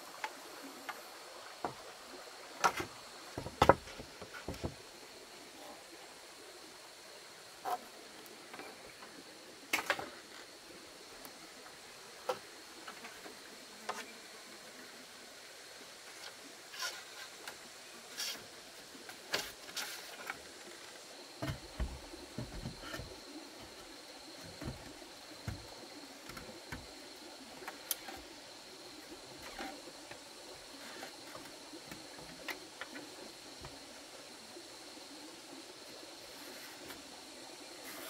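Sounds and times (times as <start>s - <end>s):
high insect whine: 0.0s - 38.0s
running water hiss: 0.0s - 38.0s.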